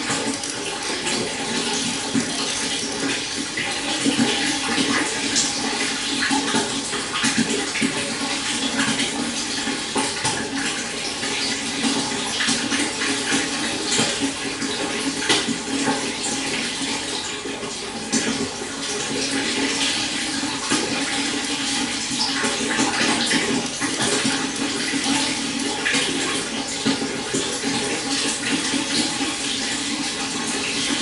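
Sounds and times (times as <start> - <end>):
stream water flowing: 0.0 - 31.0.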